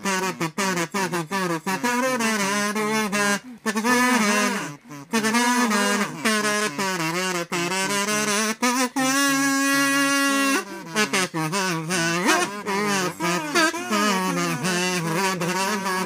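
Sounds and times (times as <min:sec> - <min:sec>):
kazoo bass line: 0:00.0 - 0:16.0
kazoos buzzing melody: 0:00.0 - 0:16.0.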